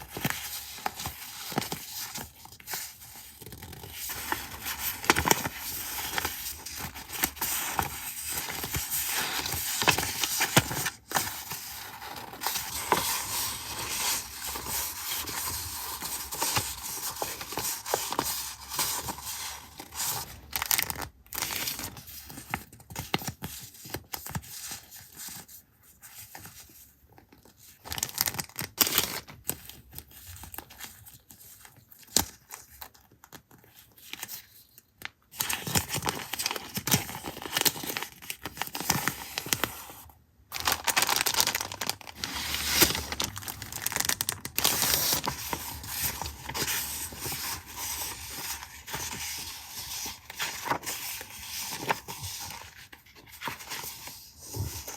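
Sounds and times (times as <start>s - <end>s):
paper crinkling and tearing: 0.0s - 24.4s, 35.4s - 54.9s.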